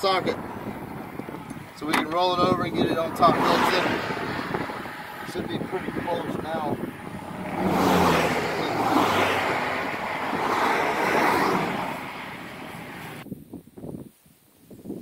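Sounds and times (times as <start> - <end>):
highway traffic rushing past: 0.0 - 13.2.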